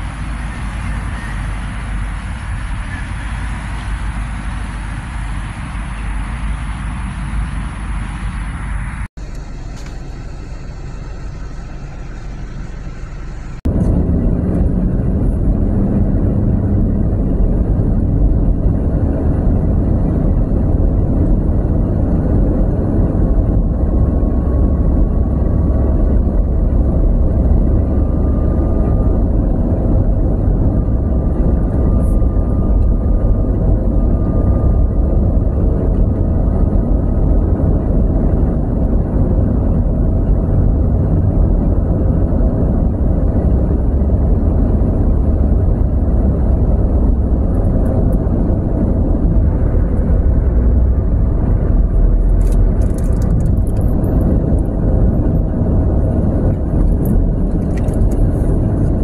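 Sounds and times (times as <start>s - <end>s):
car interior road rumble: 0.0s - 59.0s
road traffic passing: 0.0s - 59.0s.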